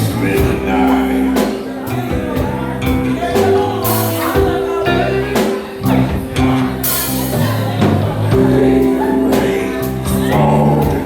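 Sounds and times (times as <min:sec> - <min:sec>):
live band playing soul ballad: 0:00.0 - 0:11.0.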